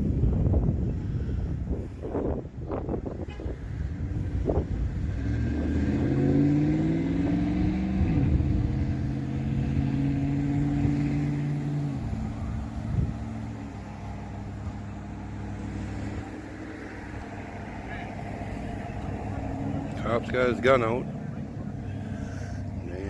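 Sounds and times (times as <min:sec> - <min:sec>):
vehicle engine revving up: 0:04.1 - 0:23.0.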